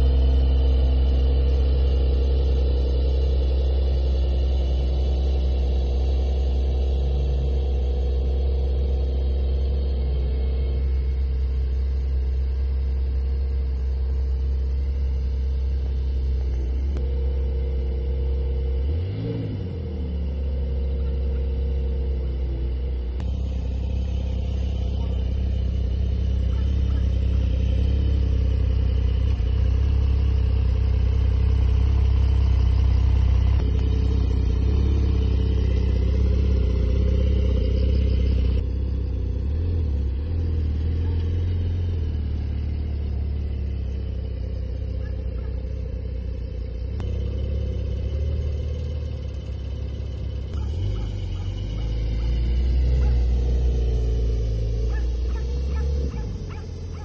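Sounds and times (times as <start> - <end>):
car engine at low revs: 0.0 - 57.0.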